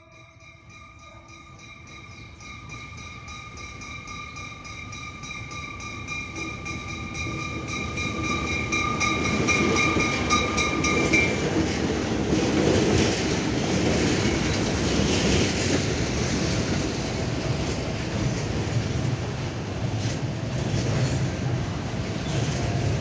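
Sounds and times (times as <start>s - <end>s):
diesel locomotives rumbling: 0.0s - 23.0s.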